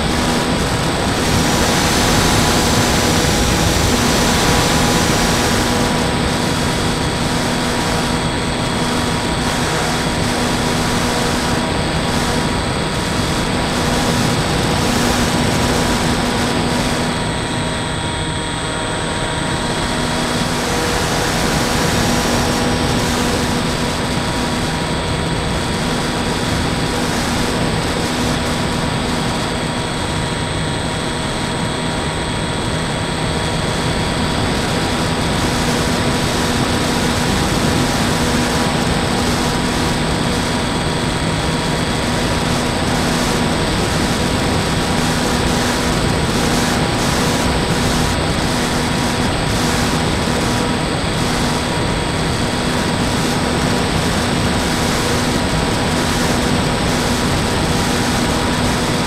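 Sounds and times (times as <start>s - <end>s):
airflow rush: 0.0s - 59.0s
electric motor and propeller humming: 0.0s - 59.0s.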